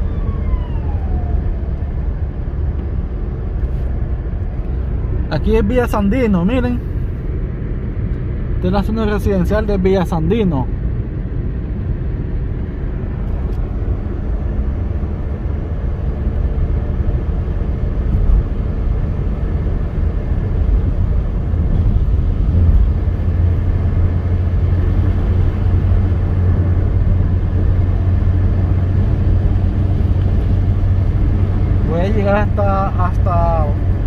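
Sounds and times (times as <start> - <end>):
road and engine noise in car: 0.0 - 34.0.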